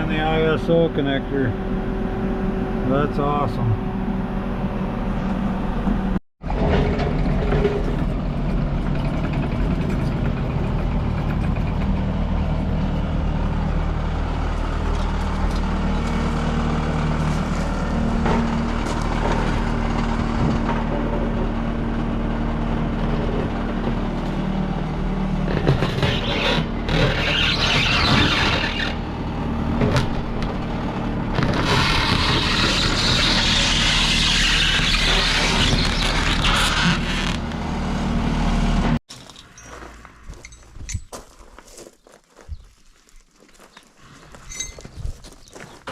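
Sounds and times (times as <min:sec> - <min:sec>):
tractor engine running: 0:00.0 - 0:41.1.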